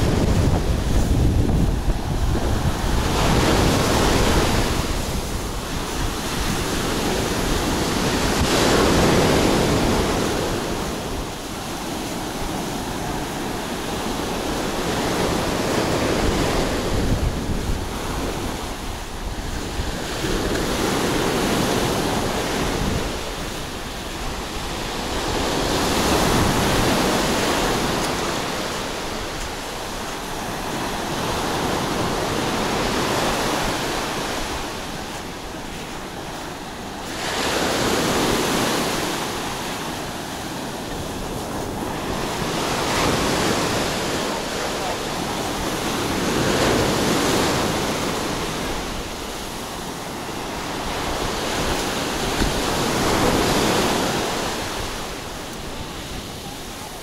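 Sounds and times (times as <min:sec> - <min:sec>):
surf washing up a beach: 0:00.0 - 0:57.0
wind buffeting microphone: 0:00.0 - 0:57.0.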